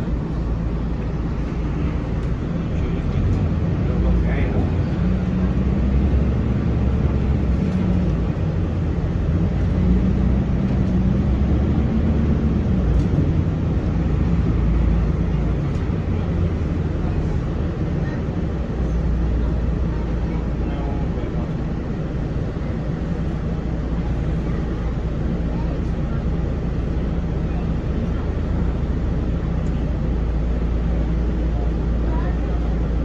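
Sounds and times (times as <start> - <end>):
bus engine low rumble: 0.0 - 33.0.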